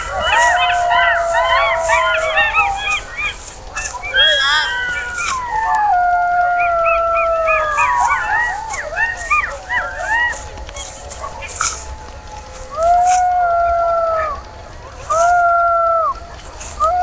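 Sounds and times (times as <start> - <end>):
canines yipping and crying: 0.0 - 17.0
long drawn-out howl: 0.0 - 17.0.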